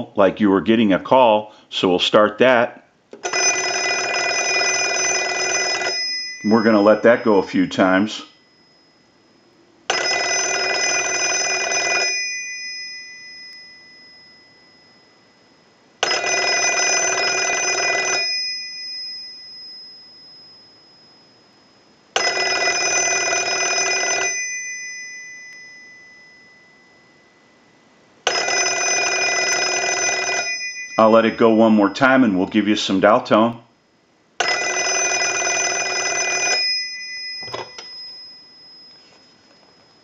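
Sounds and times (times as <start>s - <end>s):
telephone bells ringing: 3.2s - 32.2s, 34.4s - 40.0s.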